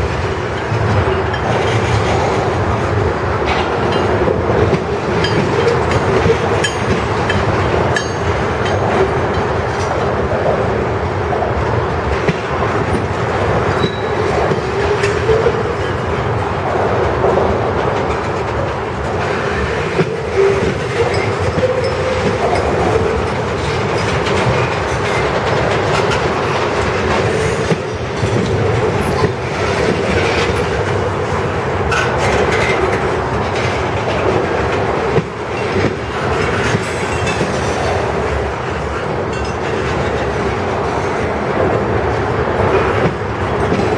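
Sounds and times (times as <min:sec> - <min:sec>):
train wheels clacking over rail joints: 0:00.0 - 0:43.9
wheels whining on rails: 0:00.0 - 0:43.9.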